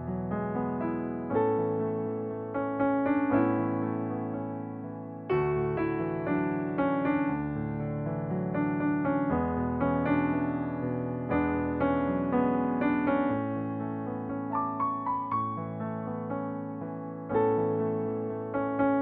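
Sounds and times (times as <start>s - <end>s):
gentle solo piano piece: 0.0s - 19.0s.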